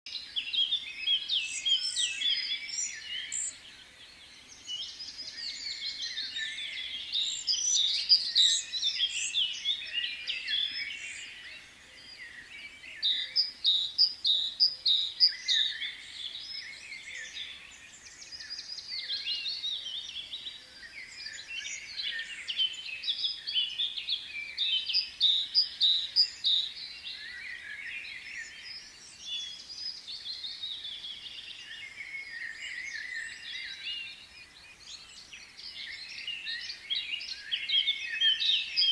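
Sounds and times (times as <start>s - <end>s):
small birds chirping: 0.1s - 38.9s.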